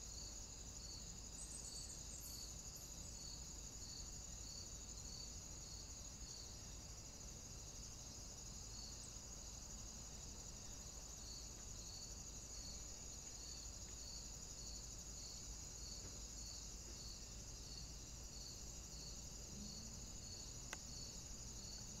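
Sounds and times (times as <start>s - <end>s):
insects chirring: 0.1s - 22.0s.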